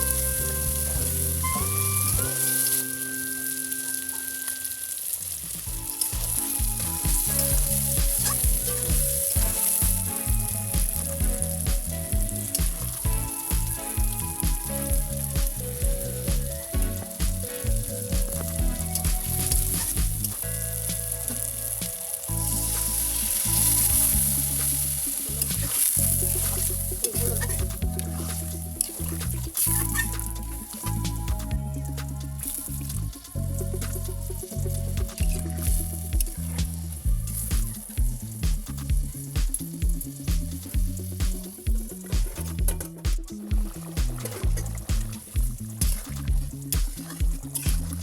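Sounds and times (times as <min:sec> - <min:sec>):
background music with beat: 0:00.0 - 0:48.0.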